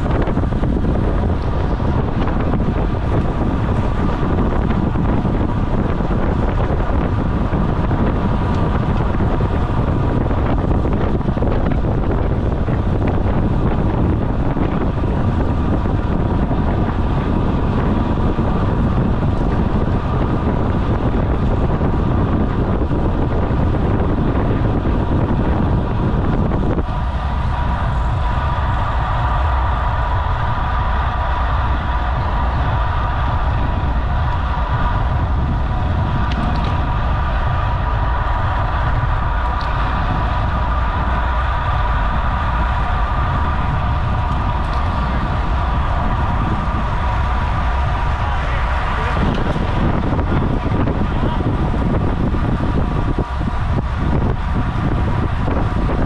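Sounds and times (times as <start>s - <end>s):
steady mid-pitched hum: 0.0s - 56.0s
wind rushing over microphone: 0.0s - 56.0s.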